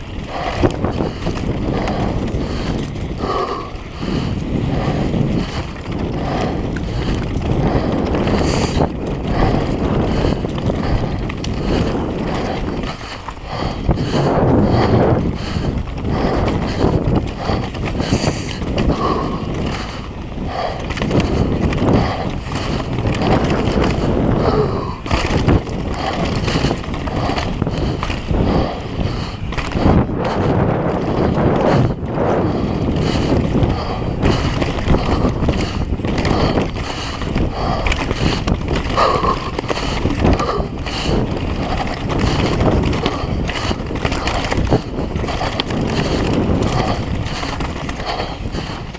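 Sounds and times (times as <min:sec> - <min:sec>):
bike rattling and knocking: 0:00.0 - 0:48.9
bike tyre noise: 0:00.0 - 0:48.9
wind buffeting microphone: 0:00.0 - 0:48.9.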